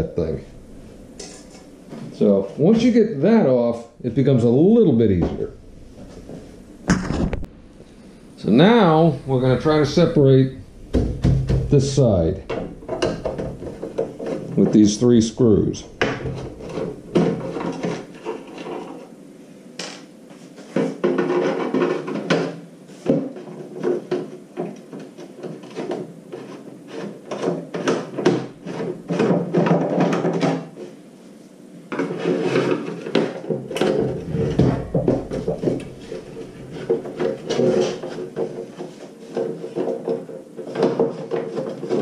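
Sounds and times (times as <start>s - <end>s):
heater rubbing and knocking on wood: 0.0s - 19.2s, 19.8s - 31.0s, 31.9s - 42.0s.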